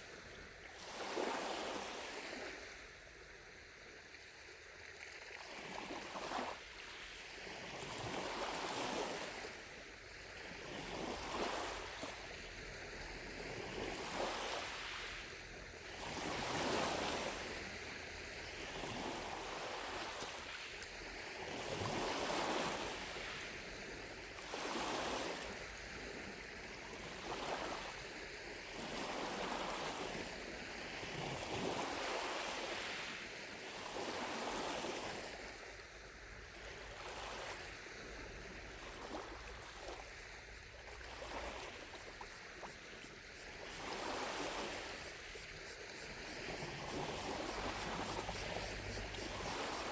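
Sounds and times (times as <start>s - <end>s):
lake waves lapping on shore: 0.0s - 49.9s.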